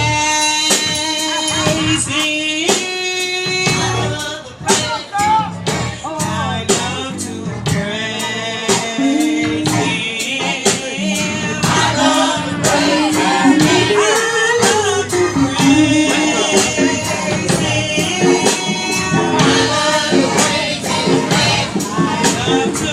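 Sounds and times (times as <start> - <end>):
band playing: 0.0 - 22.9
drums beating: 0.0 - 22.9
man singing gospel: 0.0 - 22.9.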